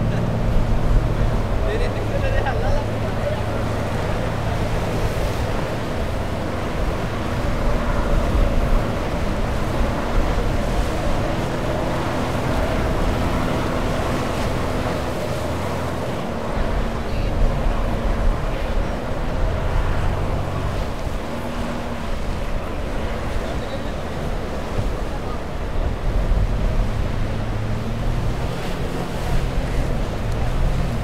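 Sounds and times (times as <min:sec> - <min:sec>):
outboard engines humming: 0:00.0 - 0:31.0
wind on microphone: 0:00.0 - 0:31.0.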